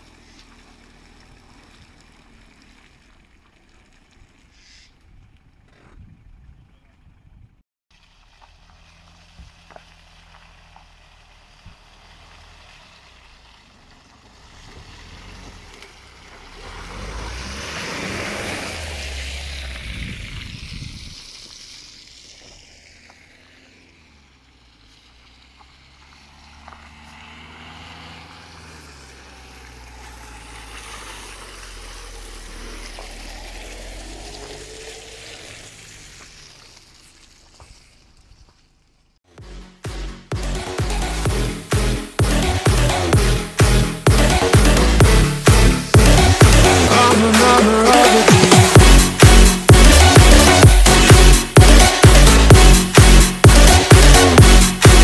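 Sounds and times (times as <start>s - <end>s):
tyres rushing through mud: 0.0s - 5.8s, 7.9s - 39.2s, 40.3s - 55.0s
four-wheel drive engines climbing: 0.0s - 55.0s.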